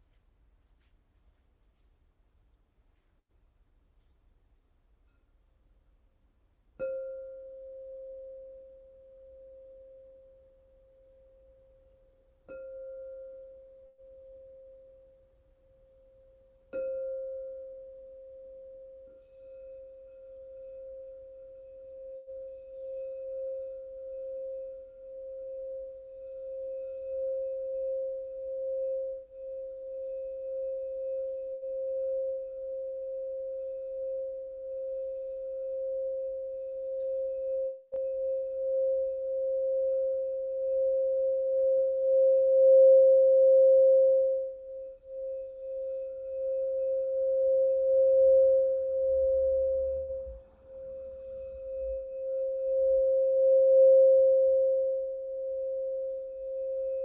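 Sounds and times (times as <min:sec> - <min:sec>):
singing bowl held tone: 0:06.8 - 0:57.0.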